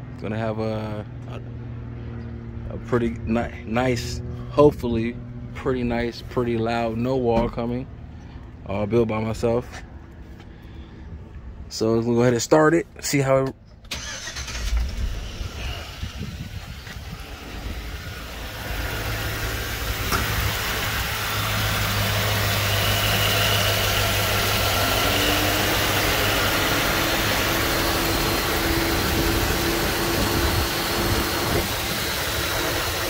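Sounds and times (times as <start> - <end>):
car engine starting and idling: 0.3 - 33.0.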